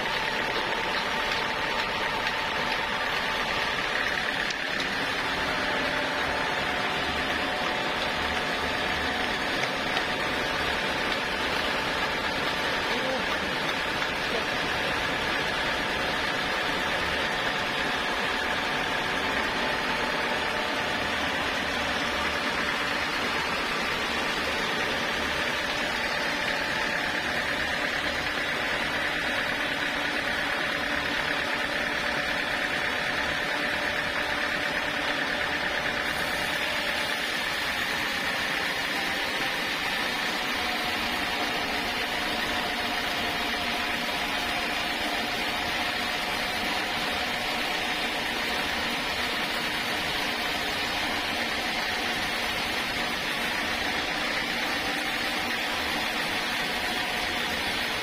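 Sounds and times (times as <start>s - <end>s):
sawmill saw whining: 0.0s - 58.0s.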